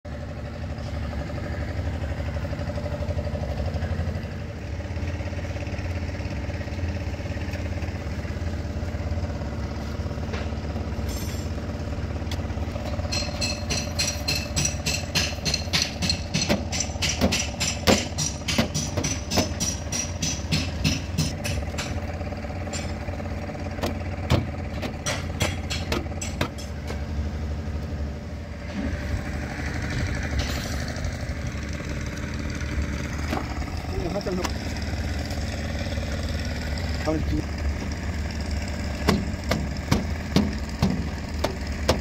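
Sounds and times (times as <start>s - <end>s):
tractor diesel engine idling: 0.1s - 42.0s.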